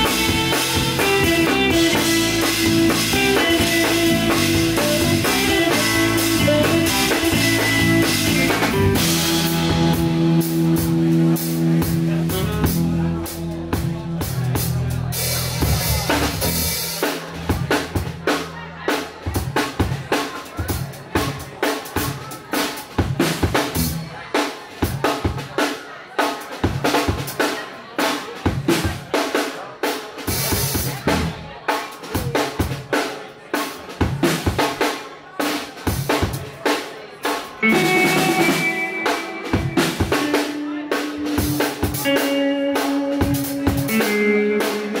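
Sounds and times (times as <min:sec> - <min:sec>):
hard-hit drumming: 0:00.0 - 0:45.0
jazz fusion band playing: 0:00.0 - 0:45.0.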